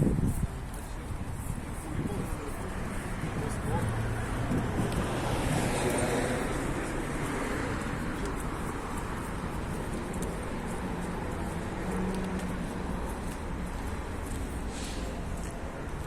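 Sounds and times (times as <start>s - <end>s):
cars going by: 0.0s - 16.0s.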